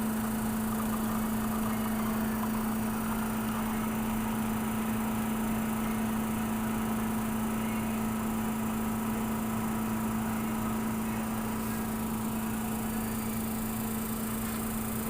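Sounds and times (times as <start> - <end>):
espresso machine pump humming: 0.0 - 15.0.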